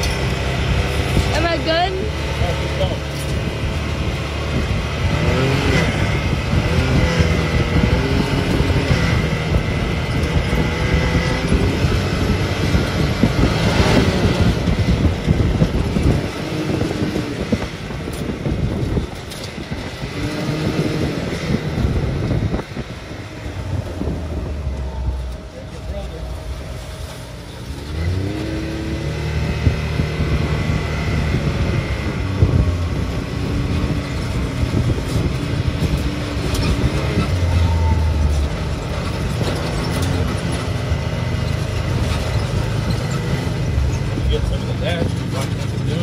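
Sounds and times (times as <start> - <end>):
rumble of the ride: 0.0 - 46.0
utility vehicle engine revving: 0.0 - 46.0.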